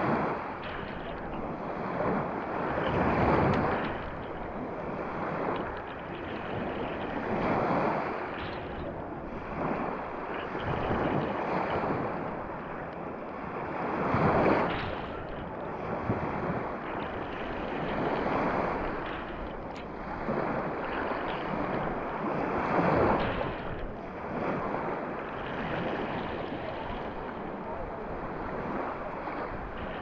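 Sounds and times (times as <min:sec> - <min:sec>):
small waves washing over sand: 0:00.0 - 0:30.0.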